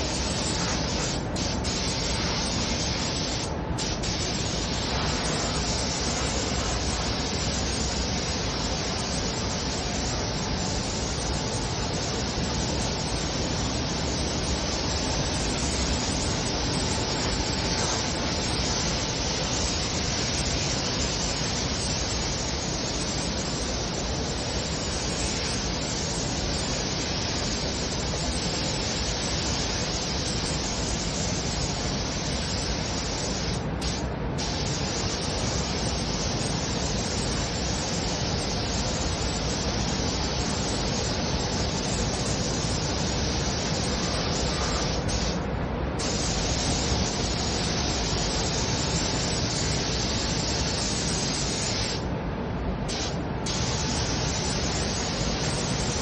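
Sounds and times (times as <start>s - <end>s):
spray gun hissing: 0.0s - 45.4s, 46.0s - 52.0s, 52.9s - 56.0s.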